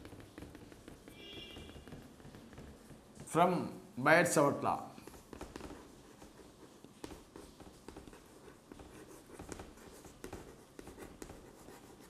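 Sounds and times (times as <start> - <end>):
chalk scratching on chalkboard: 0.0 - 3.4, 5.0 - 12.0.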